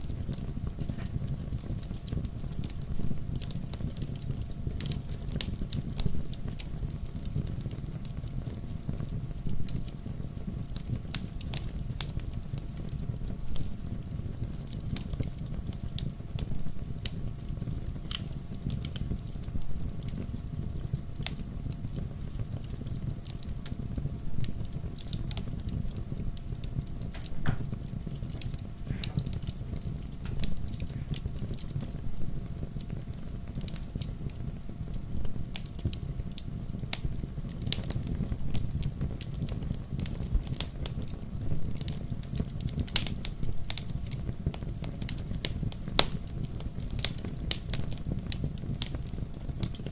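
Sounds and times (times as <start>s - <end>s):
fire crackling: 0.0s - 49.9s.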